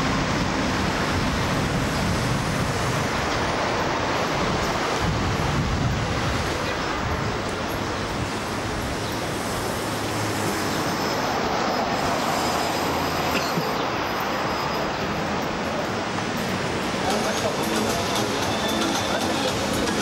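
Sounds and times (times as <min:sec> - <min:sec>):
vehicle noise roaring: 0:00.0 - 0:20.0.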